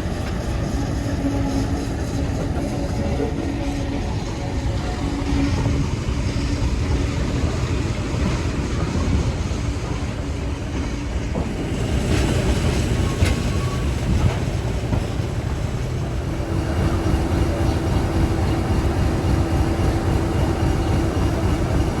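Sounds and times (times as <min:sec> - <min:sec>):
diesel locomotive engine rumble: 0:00.0 - 0:22.0
train wheels on rail: 0:00.0 - 0:22.0.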